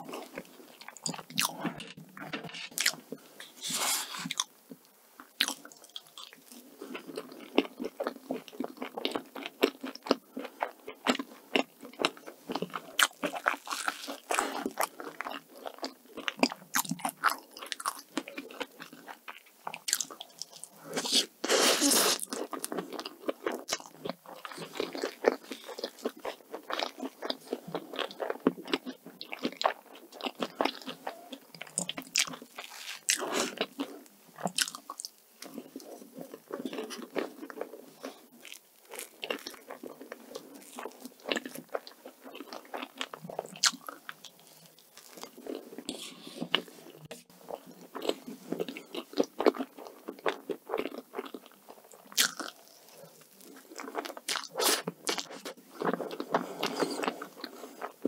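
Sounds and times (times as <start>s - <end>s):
person chewing cake: 0.0s - 58.0s.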